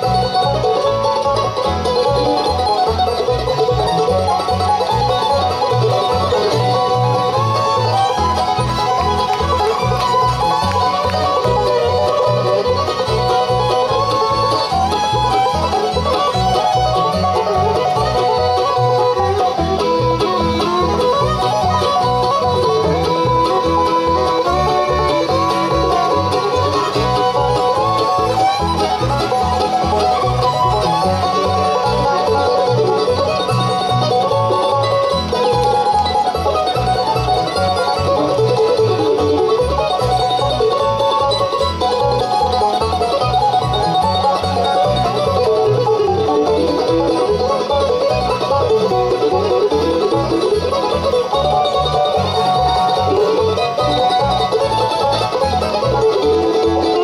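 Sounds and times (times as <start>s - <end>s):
bluegrass band playing: 0.0s - 57.0s.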